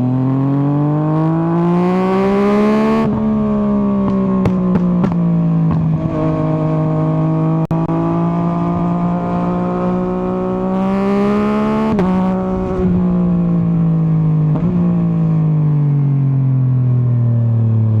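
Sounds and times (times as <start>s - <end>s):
motorcycle engine running: 0.0s - 16.3s.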